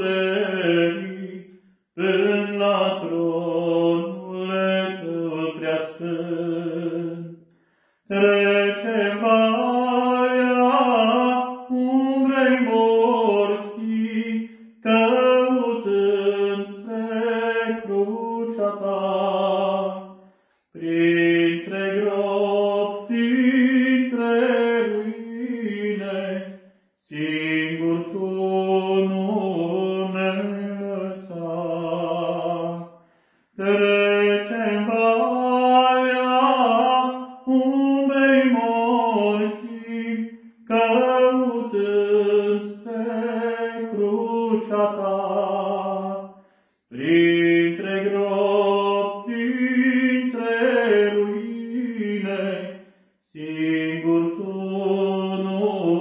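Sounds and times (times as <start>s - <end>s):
man singing unaccompanied: 0.0s - 7.4s, 8.1s - 56.0s.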